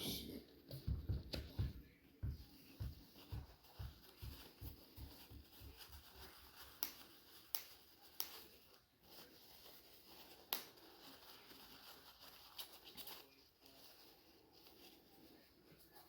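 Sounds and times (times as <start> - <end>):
handling rustles: 0.6 - 16.0.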